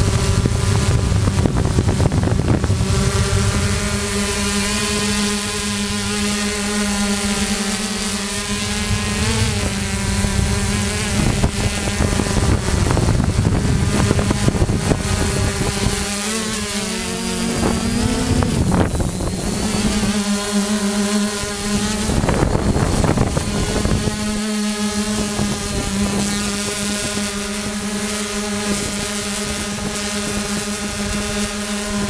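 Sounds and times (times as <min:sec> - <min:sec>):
drone motors buzzing: 0:00.0 - 0:32.0
wind on microphone: 0:00.0 - 0:32.0.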